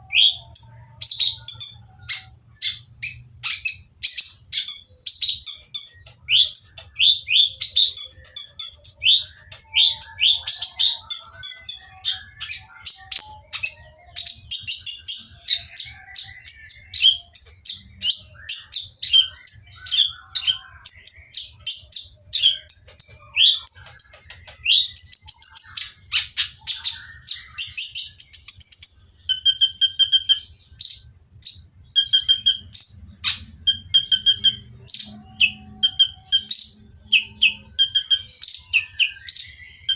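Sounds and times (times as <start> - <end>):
sunbird chattering song: 0.0 - 39.9.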